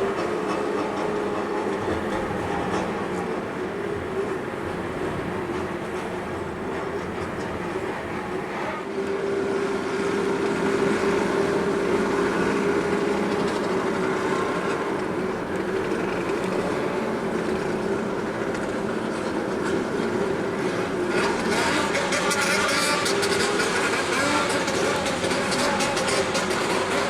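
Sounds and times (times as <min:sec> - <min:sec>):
motorcycle engines droning: 0:00.0 - 0:27.0.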